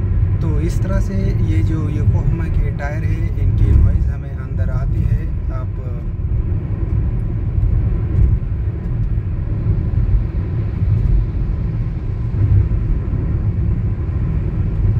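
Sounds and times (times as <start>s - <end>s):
tyre road noise rumble: 0.0s - 14.9s.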